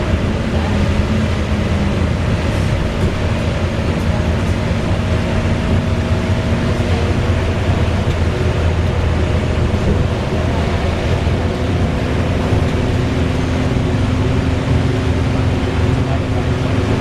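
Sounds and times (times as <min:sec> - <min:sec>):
bus engine drone: 0:00.0 - 0:17.0
whirring whine: 0:00.0 - 0:17.0.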